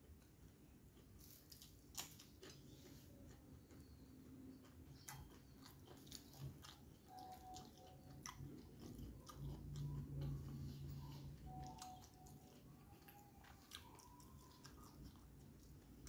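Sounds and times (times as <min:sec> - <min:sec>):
low steady hum: 0:00.0 - 0:16.0
person chewing with mouth clicks: 0:01.0 - 0:16.0.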